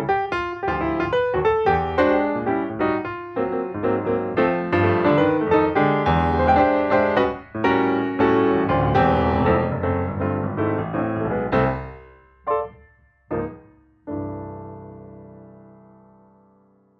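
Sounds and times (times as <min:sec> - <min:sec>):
piano music: 0:00.0 - 0:16.9.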